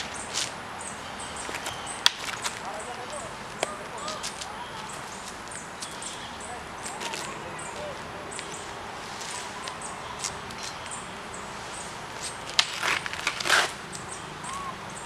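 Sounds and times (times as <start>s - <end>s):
fencers scuffling: 0.0s - 0.6s, 1.4s - 11.0s, 11.6s - 14.6s
steady low hiss: 0.0s - 15.0s.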